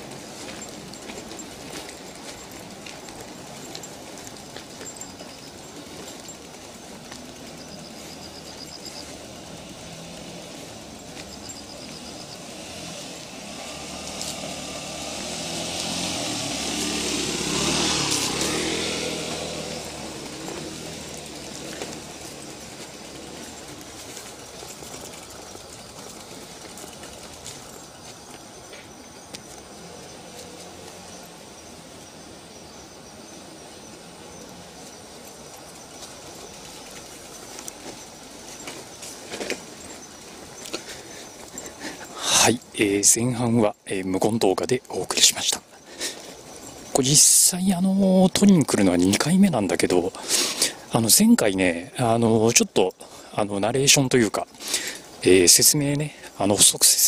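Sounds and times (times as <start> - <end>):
bicycle rattles and clicks: 0.0 - 57.0
bicycle rolling on dirt path: 0.0 - 57.0
vehicle passing by: 0.0 - 57.0.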